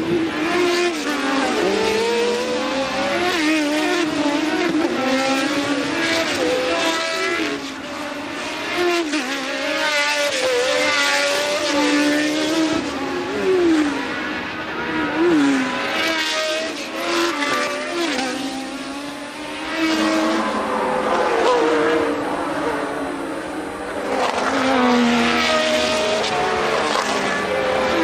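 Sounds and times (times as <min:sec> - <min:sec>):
cars passing by: 0:00.0 - 0:28.0
race car engines: 0:00.0 - 0:28.0.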